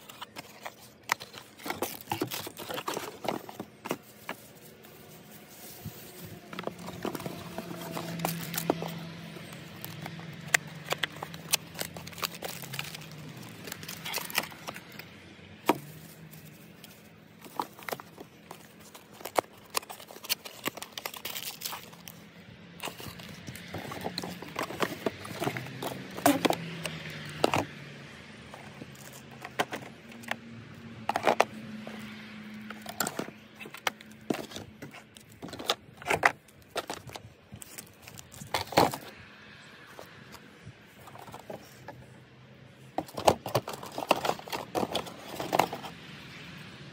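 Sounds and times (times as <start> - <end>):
cardboard boxes being handled: 0.0 - 39.2, 39.9 - 42.2, 42.8 - 46.0.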